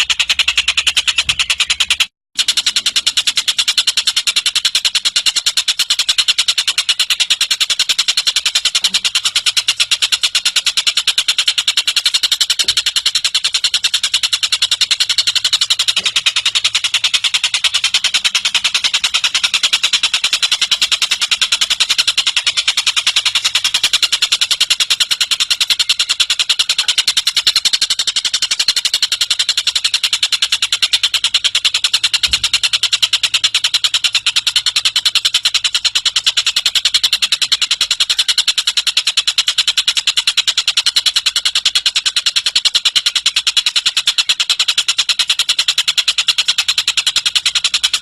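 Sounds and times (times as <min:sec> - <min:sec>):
bird rattling trill: 0:00.0 - 0:48.0.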